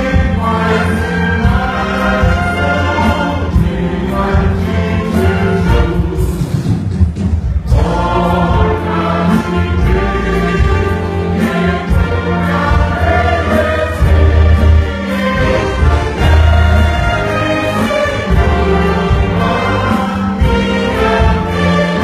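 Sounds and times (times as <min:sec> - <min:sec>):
band playing a hymn: 0:00.0 - 0:22.0
many voices singing: 0:00.0 - 0:22.0.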